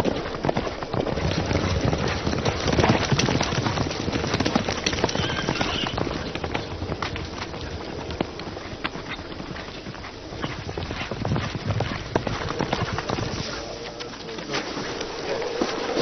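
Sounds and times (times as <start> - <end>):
clattering hoofbeats: 0.0 - 16.0.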